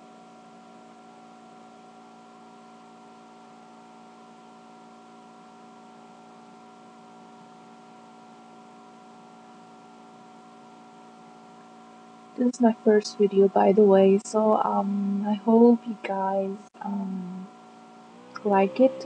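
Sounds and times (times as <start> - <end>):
laptop cooling fan whirring: 0.0 - 19.0.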